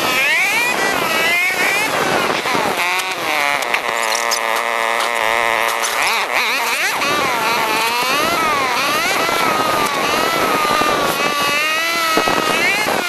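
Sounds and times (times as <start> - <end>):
high engine whine: 0.0 - 13.0.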